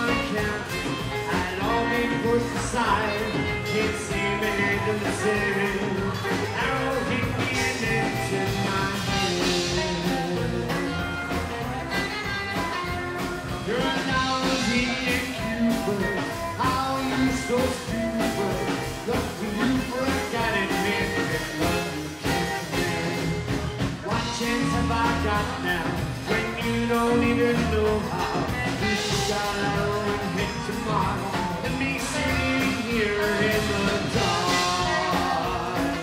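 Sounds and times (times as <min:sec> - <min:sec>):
drum kit: 0:00.0 - 0:36.0
man singing: 0:00.0 - 0:36.0
plucked double bass: 0:00.0 - 0:36.0.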